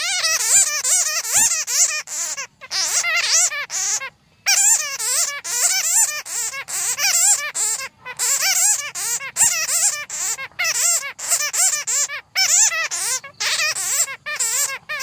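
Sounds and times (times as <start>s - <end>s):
bats chattering: 0.0s - 15.0s.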